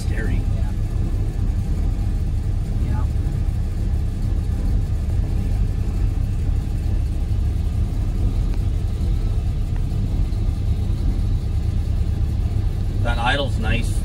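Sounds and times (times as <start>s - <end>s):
car engine rumble from inside: 0.0s - 14.0s.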